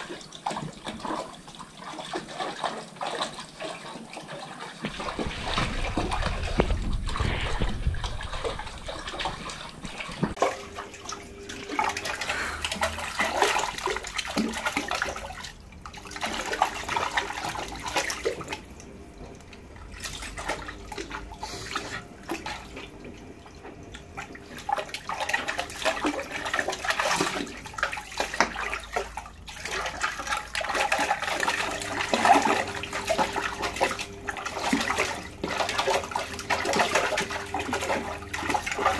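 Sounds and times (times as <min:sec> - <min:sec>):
dog splashing in water: 0:00.0 - 0:18.8, 0:19.9 - 0:38.9.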